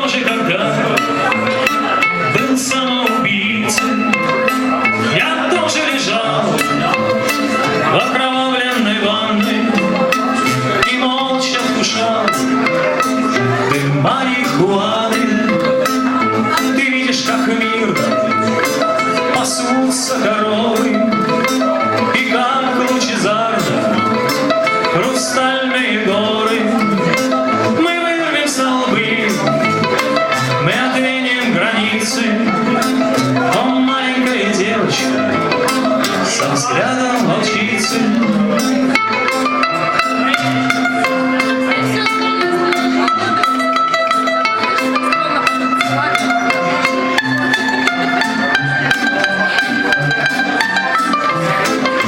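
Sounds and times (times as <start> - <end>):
guitar: 0.0 - 52.0
live band playing: 0.0 - 52.0
steady percussive beat: 0.0 - 52.0.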